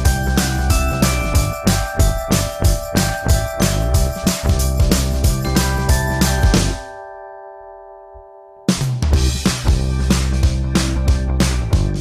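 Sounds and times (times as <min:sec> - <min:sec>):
steady drum beat: 0:00.0 - 0:06.8, 0:08.7 - 0:12.0.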